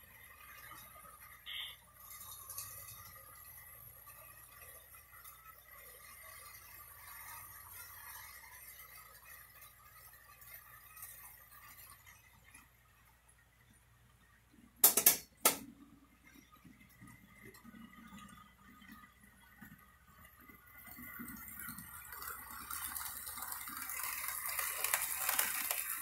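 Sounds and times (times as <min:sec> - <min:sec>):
faint hum with whining tones: 0:00.0 - 0:26.0.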